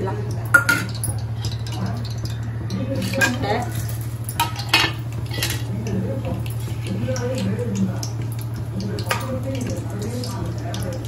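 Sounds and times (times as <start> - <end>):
steady low hum: 0.0 - 11.0
utensils clinking on metal pots: 0.0 - 11.0.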